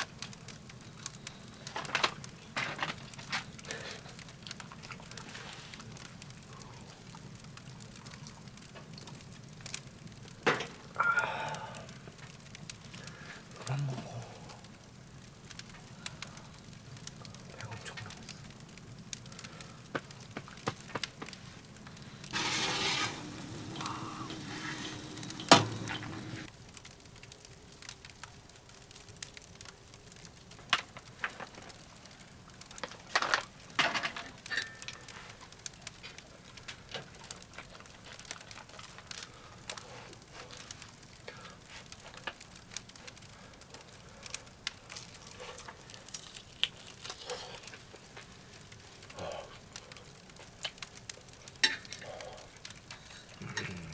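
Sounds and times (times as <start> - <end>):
firewood crackling in stove: 0.0 - 53.9.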